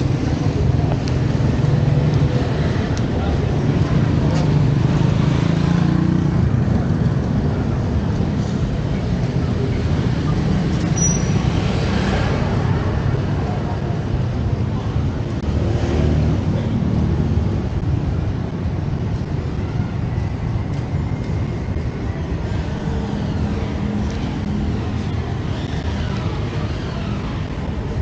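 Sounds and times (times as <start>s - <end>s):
low rumble of vehicles: 0.0s - 28.0s.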